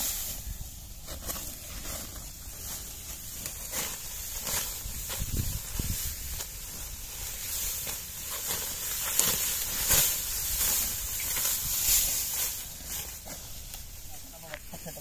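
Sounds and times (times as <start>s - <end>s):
dry wheat stalks rustling: 0.0s - 15.0s.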